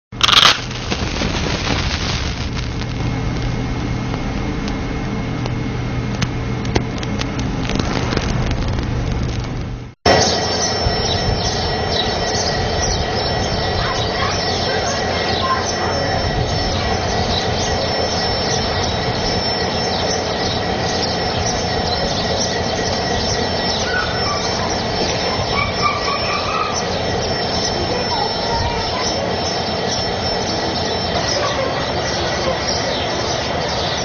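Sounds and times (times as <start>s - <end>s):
machine rumble with whine: 0.1s - 34.0s.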